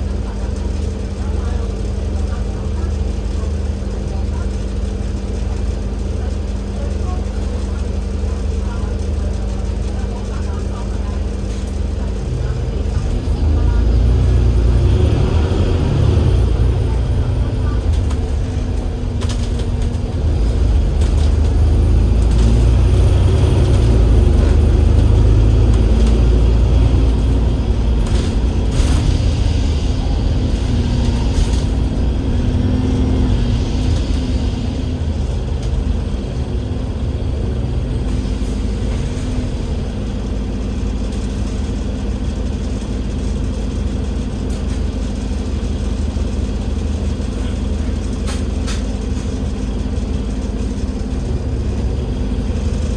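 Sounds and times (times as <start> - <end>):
bus engine rumbling: 0.0 - 52.9.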